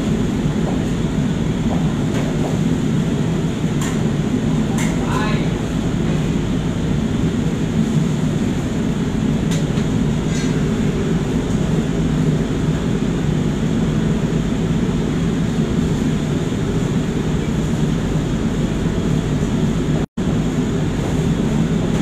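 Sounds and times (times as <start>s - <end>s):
gas burners roaring: 0.0s - 22.0s.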